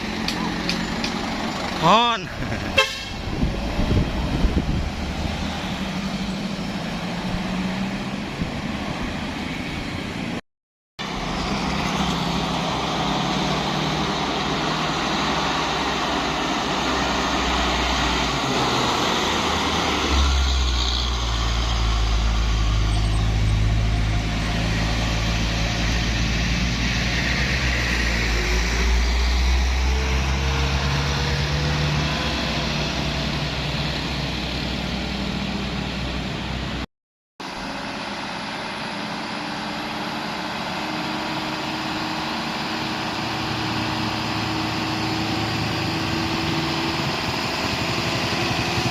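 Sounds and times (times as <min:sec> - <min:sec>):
heavy truck engine under load: 0:00.0 - 0:10.4, 0:11.0 - 0:36.8, 0:37.4 - 0:48.9.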